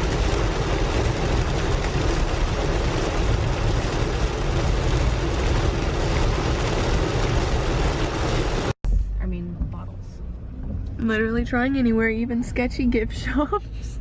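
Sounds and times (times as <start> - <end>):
car driving rumble: 0.0 - 14.0
road and wind noise: 0.0 - 14.0.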